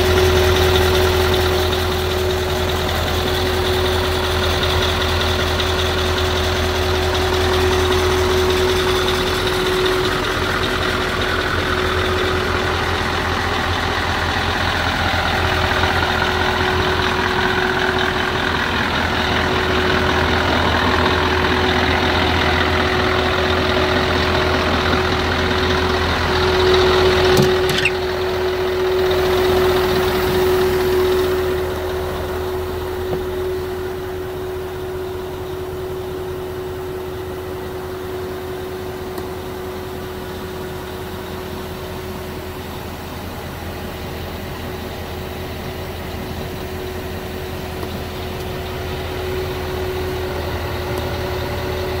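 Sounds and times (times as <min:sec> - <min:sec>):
diesel engine idling: 0:00.0 - 0:52.0.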